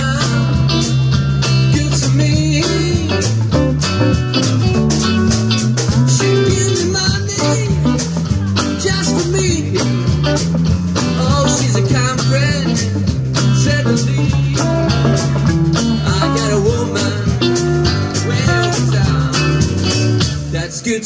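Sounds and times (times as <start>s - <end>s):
electric guitar lead: 0.0s - 20.6s
blues band playing: 0.0s - 21.0s.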